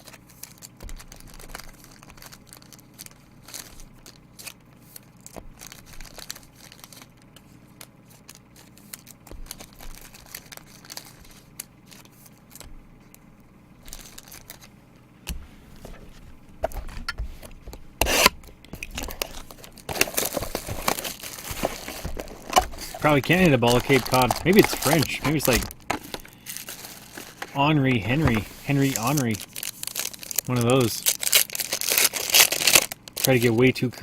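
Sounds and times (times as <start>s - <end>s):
sharp wrapper crinkle: 0.0s - 12.7s, 13.8s - 14.8s, 18.0s - 33.7s
card wrappers rustling: 0.0s - 13.2s, 13.8s - 14.8s, 15.6s - 34.0s.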